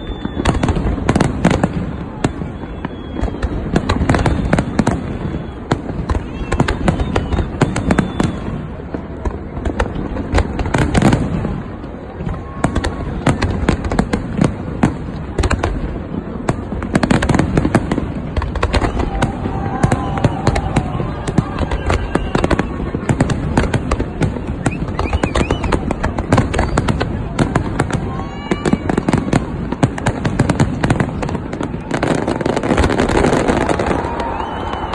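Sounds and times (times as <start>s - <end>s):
fireworks bangs and pops: 0.0s - 34.9s.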